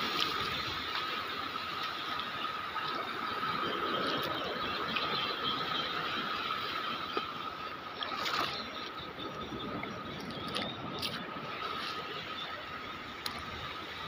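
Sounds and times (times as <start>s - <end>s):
constant high hum: 0.0s - 14.0s.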